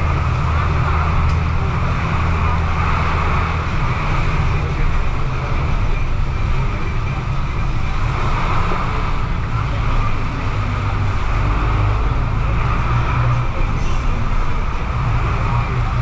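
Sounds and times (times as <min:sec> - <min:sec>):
bus engine hum: 0:00.0 - 0:16.0
road noise hiss: 0:00.0 - 0:16.0.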